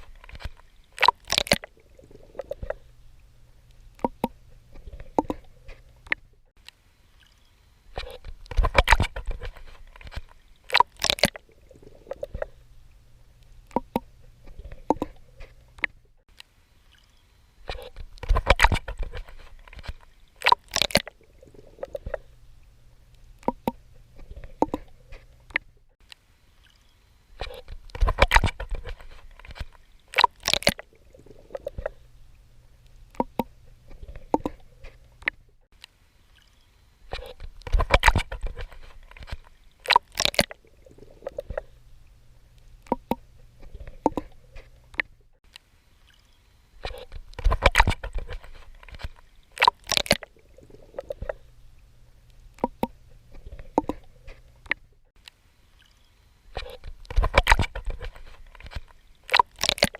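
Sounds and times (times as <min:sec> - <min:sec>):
water sloshing and splashing: 0:00.0 - 0:59.9.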